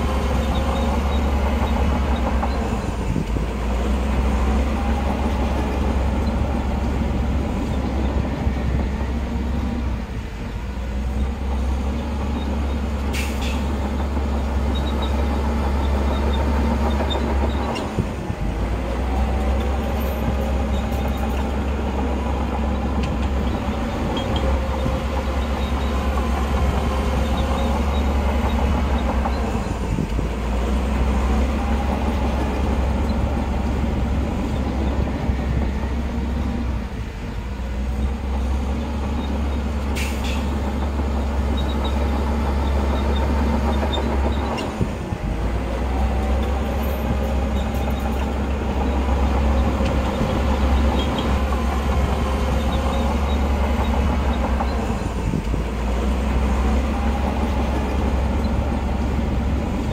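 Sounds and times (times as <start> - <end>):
diesel machinery engine rumble: 0.0 - 59.9.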